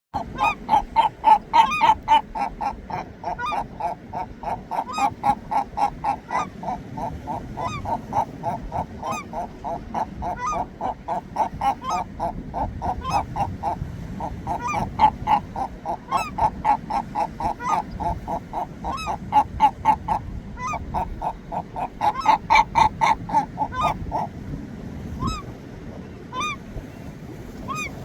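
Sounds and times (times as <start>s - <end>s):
gulls calling: 0.2s - 24.4s, 25.1s - 25.6s, 26.2s - 28.0s.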